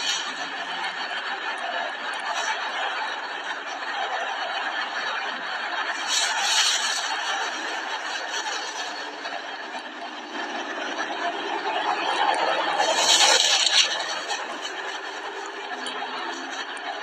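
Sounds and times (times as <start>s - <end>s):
people laughing: 0.0s - 17.0s
steady background noise: 0.0s - 17.0s.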